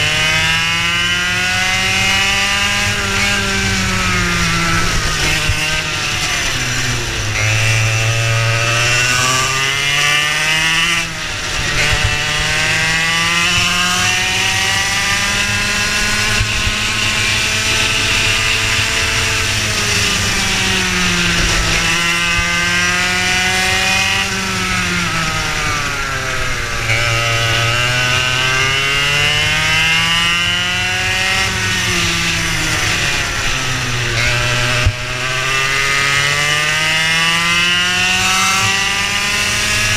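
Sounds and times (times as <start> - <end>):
kart engine at full throttle: 0.0 - 39.9.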